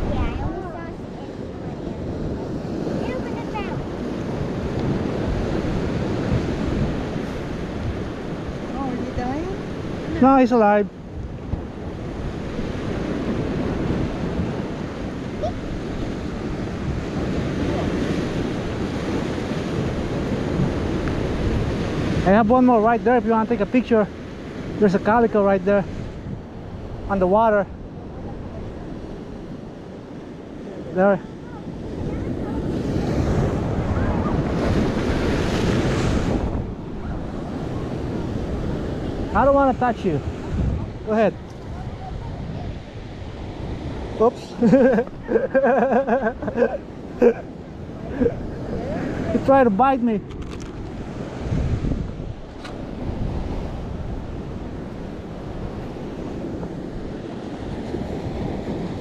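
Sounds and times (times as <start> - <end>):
ocean surf breaking over rocks: 0.0 - 59.0
wind on microphone: 0.0 - 59.0.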